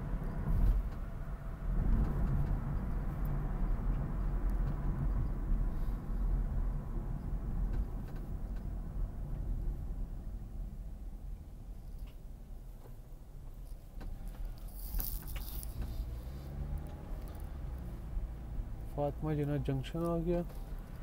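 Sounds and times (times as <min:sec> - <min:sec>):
car road noise on wet pavement: 0:00.0 - 0:12.2, 0:13.9 - 0:21.0.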